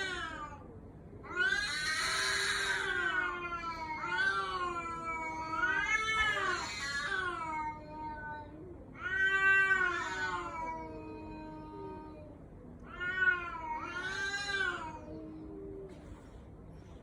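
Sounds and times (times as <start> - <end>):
cat yowling: 0.0 - 0.7, 1.3 - 12.3, 12.9 - 15.4.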